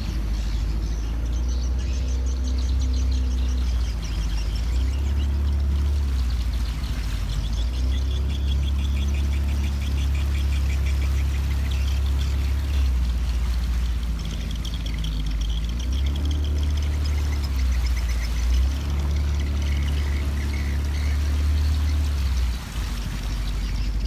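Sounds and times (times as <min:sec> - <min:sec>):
motorboat engine running: 0:00.0 - 0:24.0
water washing along hull: 0:00.0 - 0:24.0.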